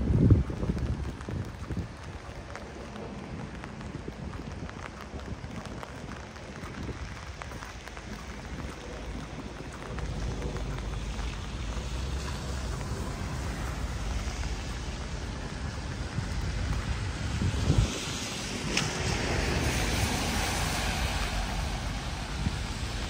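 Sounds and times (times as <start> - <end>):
low rumble: 0.0 - 23.0
rain patter: 0.0 - 23.0.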